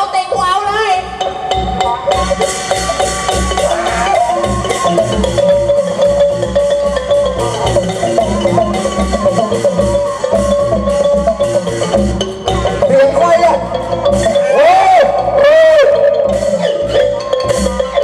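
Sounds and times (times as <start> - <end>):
steady drum beat: 0.0 - 18.0
xylophone-like mallet melody: 0.3 - 18.0.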